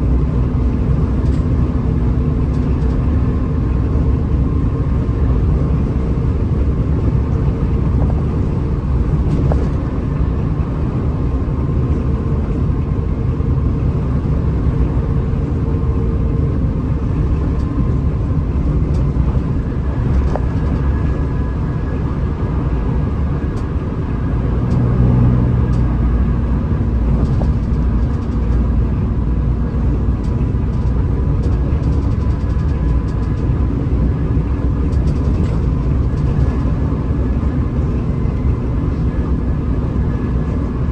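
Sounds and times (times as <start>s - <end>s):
diesel engine and road rumble: 0.0s - 40.9s.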